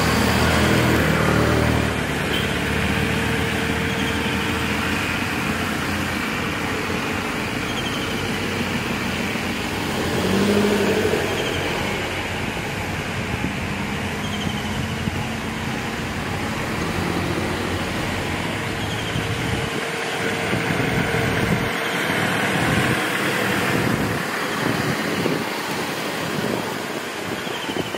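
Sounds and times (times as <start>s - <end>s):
engine hum: 0.0s - 27.9s
tyre noise on road: 0.0s - 27.9s
vehicles driving past: 0.0s - 27.9s.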